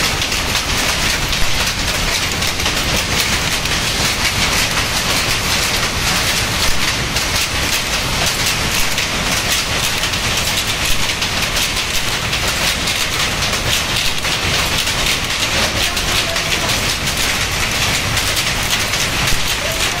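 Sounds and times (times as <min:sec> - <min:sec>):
power loom clattering: 0:00.0 - 0:20.0.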